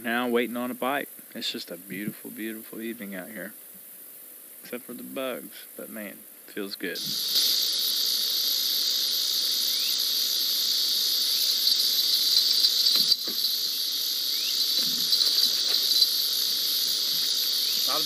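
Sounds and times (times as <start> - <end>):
insects singing: 0.0 - 18.0.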